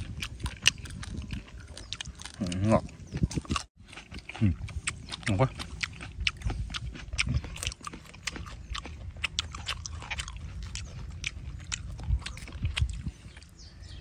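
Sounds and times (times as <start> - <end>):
crunchy chewing and biting: 0.0 - 14.0.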